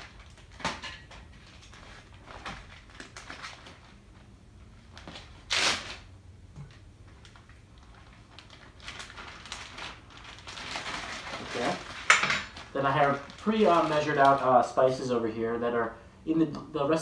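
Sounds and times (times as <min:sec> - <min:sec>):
plastic bag crinkling: 0:00.0 - 0:06.1, 0:07.0 - 0:15.4.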